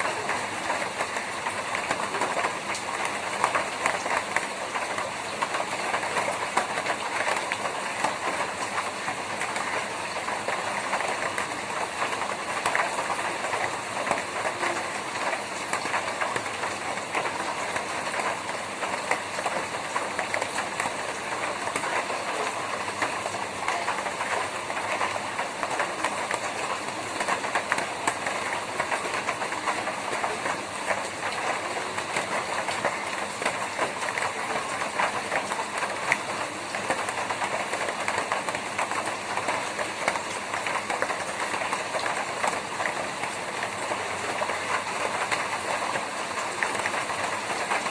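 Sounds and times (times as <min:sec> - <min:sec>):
rain on a tin roof: 0:00.0 - 0:47.9.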